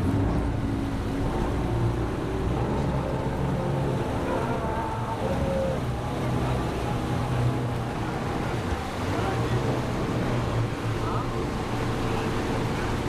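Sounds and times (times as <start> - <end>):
boat engines running: 0.0 - 13.0
sea washing around hull: 0.0 - 13.0.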